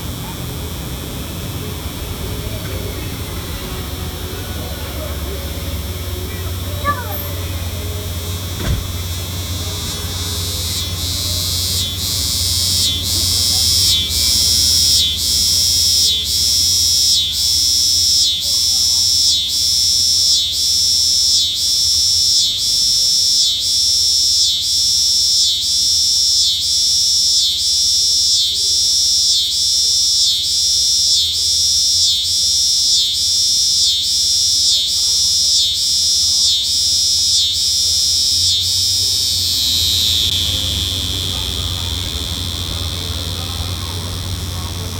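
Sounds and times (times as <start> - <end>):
cicada buzzing: 0.0 - 44.9.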